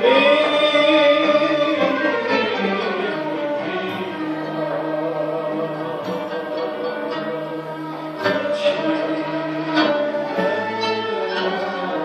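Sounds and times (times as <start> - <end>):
string ensemble playing: 0.0 - 12.0.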